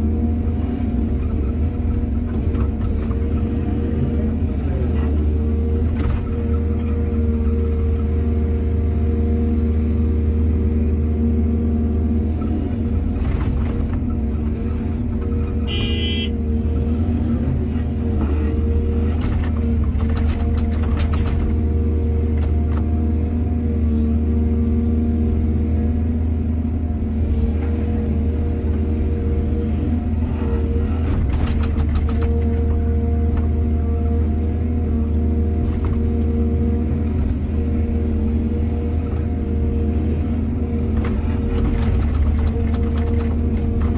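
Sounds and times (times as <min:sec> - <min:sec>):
excavator diesel engine rumbling: 0:00.0 - 0:43.9.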